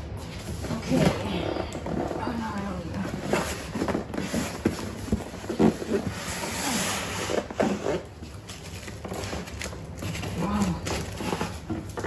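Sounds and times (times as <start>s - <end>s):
cardboard scraping: 0.3s - 12.0s.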